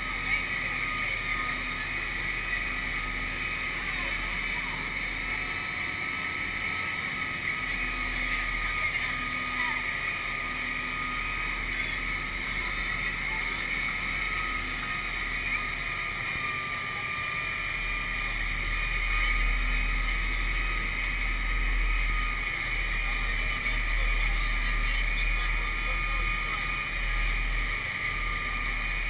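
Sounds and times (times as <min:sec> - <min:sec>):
vehicle engine drone: 0:00.0 - 0:29.0.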